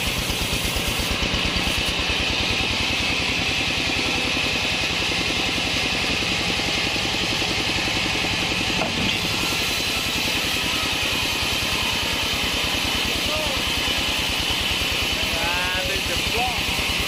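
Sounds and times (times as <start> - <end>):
saw hissing through log: 0.0 - 17.0
sawmill engine throbbing: 0.0 - 17.0.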